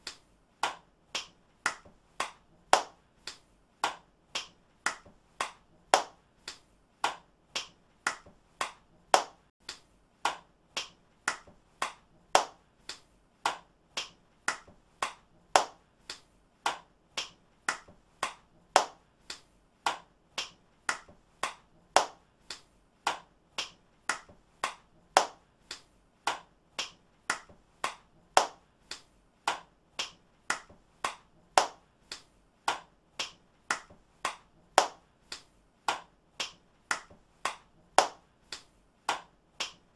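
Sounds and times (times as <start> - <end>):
person clapping hands: 0.0 - 39.9.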